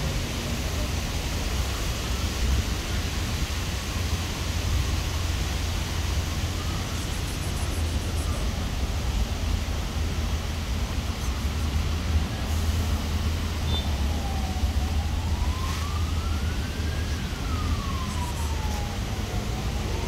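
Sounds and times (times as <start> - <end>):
emergency vehicle siren wailing: 0.0 - 20.0.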